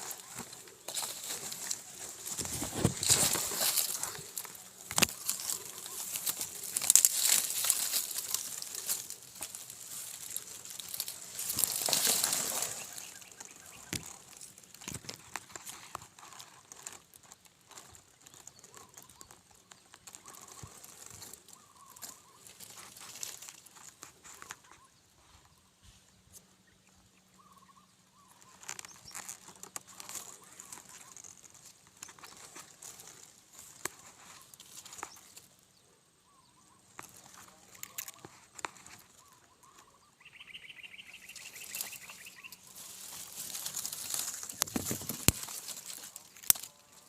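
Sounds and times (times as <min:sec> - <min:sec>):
rustling and crinkling: 0:00.0 - 0:26.6, 0:27.9 - 0:47.0.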